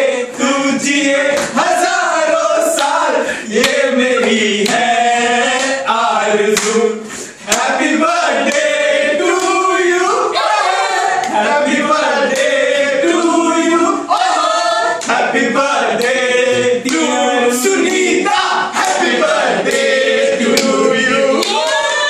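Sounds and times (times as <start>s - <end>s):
men singing loudly together: 0.0s - 22.0s.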